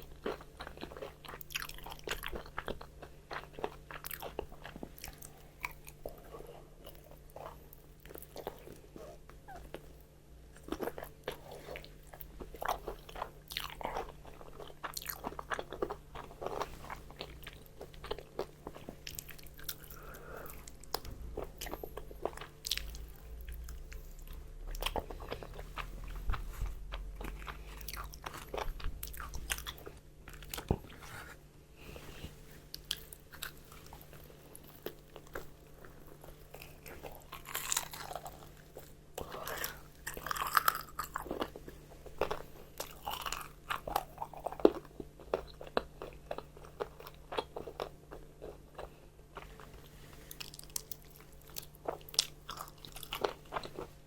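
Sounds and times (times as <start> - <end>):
chewing crispy fried chicken: 0.0 - 31.2, 32.7 - 54.0.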